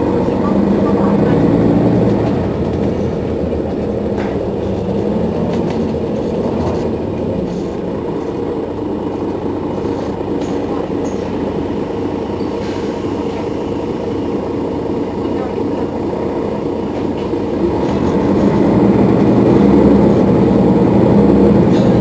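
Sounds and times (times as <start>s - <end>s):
bus diesel engine idling: 0.0s - 22.0s.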